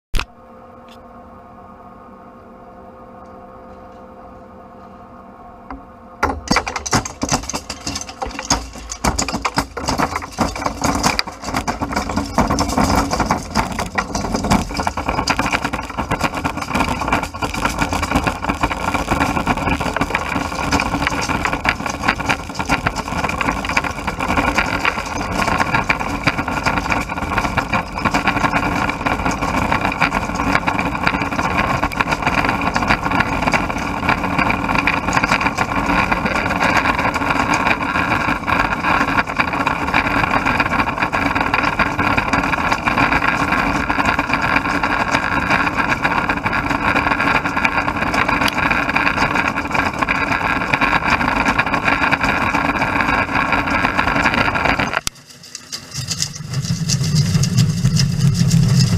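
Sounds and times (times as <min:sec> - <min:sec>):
hard plastic crackling and clattering: 0:06.2 - 0:58.9
plastic granulator grinding: 0:06.2 - 0:58.9.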